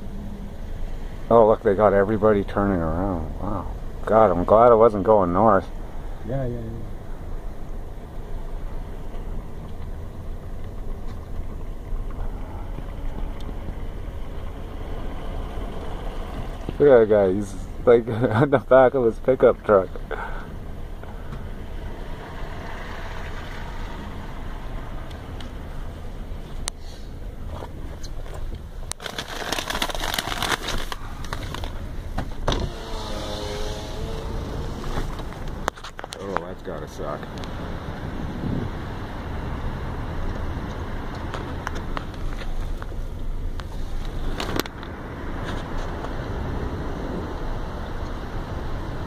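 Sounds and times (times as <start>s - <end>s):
car engine rumble: 0.0s - 49.0s.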